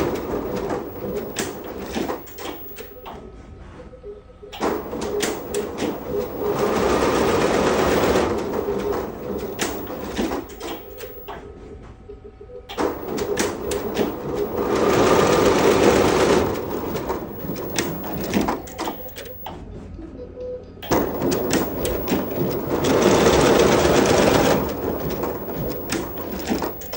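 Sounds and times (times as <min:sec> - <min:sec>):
sharp machine clicks: 0:00.0 - 0:03.1, 0:04.6 - 0:11.4, 0:12.7 - 0:19.5, 0:20.8 - 0:26.9
embroidery machine stitching: 0:00.0 - 0:03.2, 0:04.6 - 0:11.3, 0:12.7 - 0:19.5, 0:20.8 - 0:26.9.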